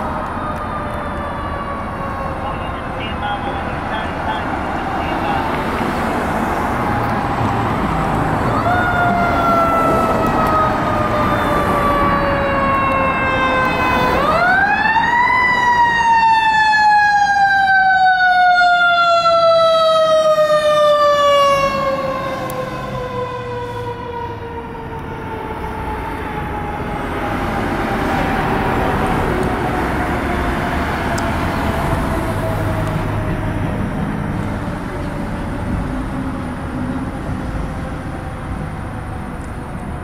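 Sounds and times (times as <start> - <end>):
fire engine siren: 0.0 - 40.0
traffic and engine noise: 0.0 - 40.0.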